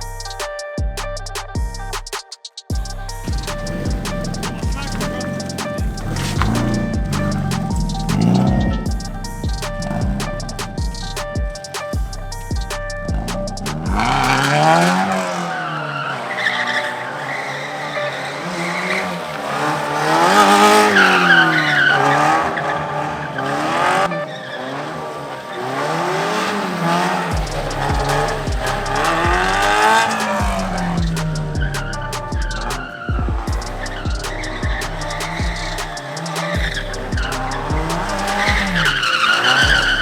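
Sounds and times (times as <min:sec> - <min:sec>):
music: 0:00.0 - 0:40.0
tyres squealing: 0:01.4 - 0:40.0
car engine revving hard: 0:02.8 - 0:40.0.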